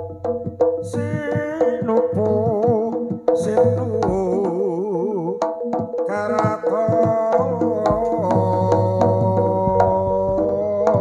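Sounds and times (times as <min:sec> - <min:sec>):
hand drum strokes: 0:00.0 - 0:11.0.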